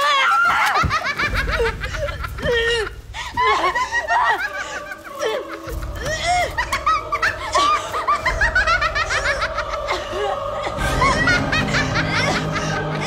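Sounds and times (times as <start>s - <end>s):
droning horror film score: 0.0s - 13.0s
woman laughing: 0.0s - 13.0s.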